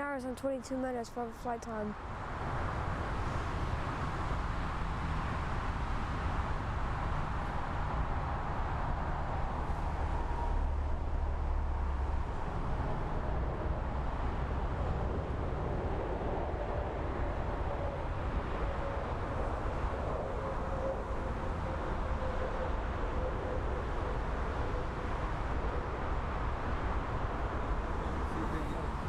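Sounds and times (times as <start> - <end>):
jet engine whine: 2.7 - 29.0.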